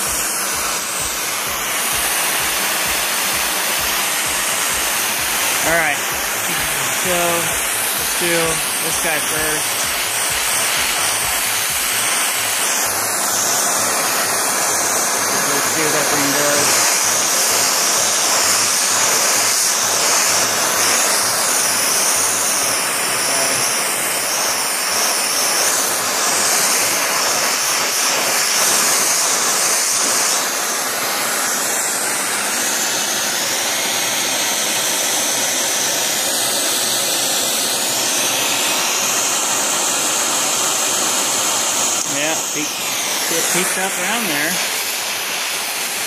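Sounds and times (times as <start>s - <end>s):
torch flame hissing: 0.0s - 46.0s.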